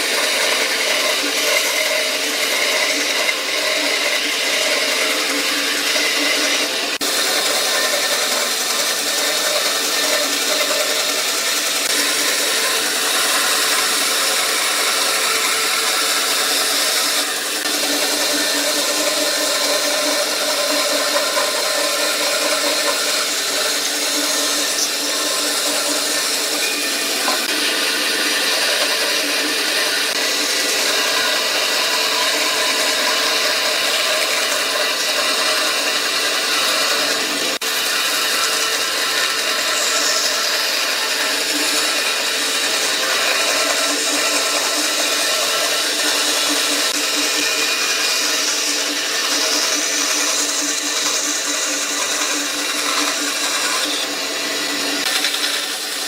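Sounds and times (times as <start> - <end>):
power tool running on wood: 0.0 - 56.0.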